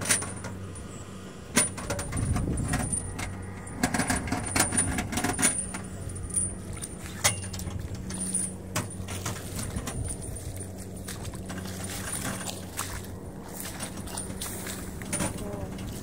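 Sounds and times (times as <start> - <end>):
metallic clanks and rattles: 0.0 - 16.0
tractor diesel engine under load: 0.0 - 16.0.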